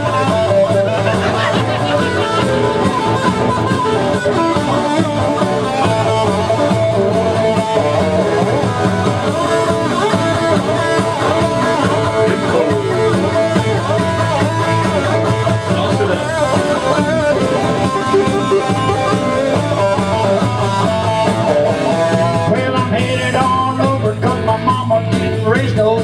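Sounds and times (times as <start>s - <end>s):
guitar: 0.0s - 26.0s.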